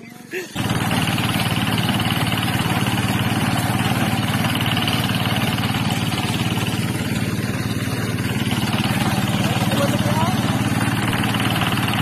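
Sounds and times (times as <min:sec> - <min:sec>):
thresher engine running: 0:00.0 - 0:12.0.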